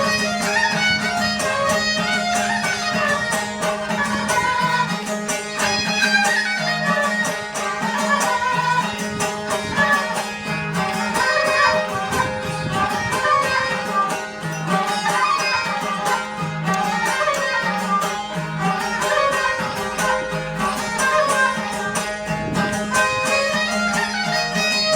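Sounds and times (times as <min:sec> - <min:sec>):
folk music with bowed strings: 0:00.0 - 0:24.9.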